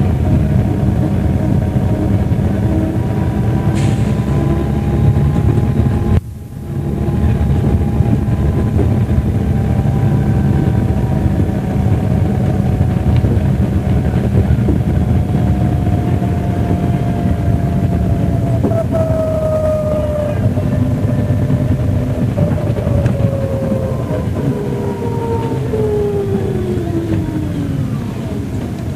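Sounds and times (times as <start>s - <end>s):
diesel bus engine running: 0.0s - 28.9s
whine falling in pitch: 1.6s - 28.9s.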